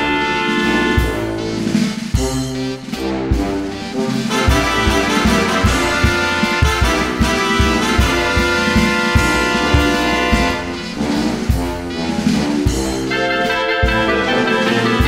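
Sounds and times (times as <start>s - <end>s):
background music with horns: 0.0s - 15.0s
steady beat: 0.0s - 15.0s.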